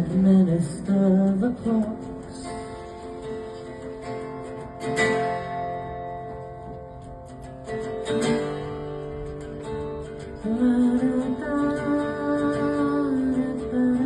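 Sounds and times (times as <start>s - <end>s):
guitar chords strummed: 0.0s - 14.0s.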